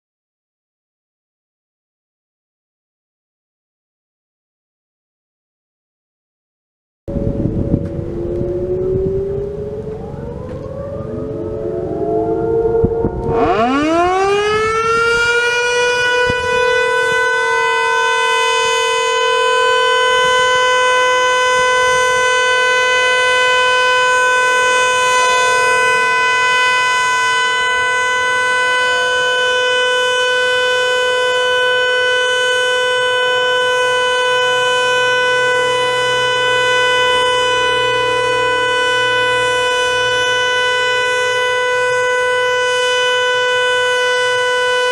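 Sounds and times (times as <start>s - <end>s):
distant gliding sirens: 7.1s - 44.9s
warning siren steady tone: 7.1s - 44.9s.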